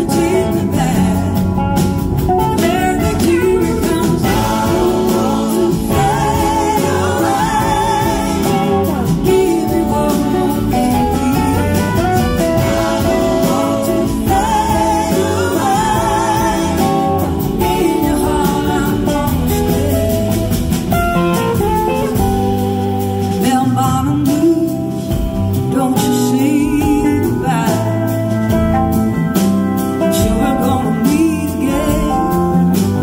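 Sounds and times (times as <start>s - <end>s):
woman singing: 0.0s - 20.6s, 21.9s - 28.3s, 30.0s - 33.0s
bass guitar: 0.0s - 33.0s
drum kit: 0.0s - 33.0s
electric guitars: 0.0s - 33.0s.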